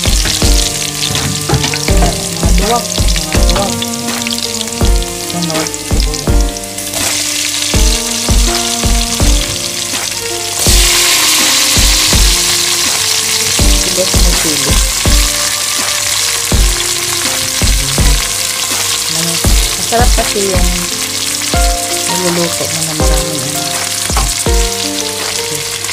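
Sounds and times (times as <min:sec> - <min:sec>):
background music with steady beat: 0:00.0 - 0:25.9
garlic sizzling in hot oil: 0:00.0 - 0:25.9
onions sizzling: 0:00.0 - 0:25.9.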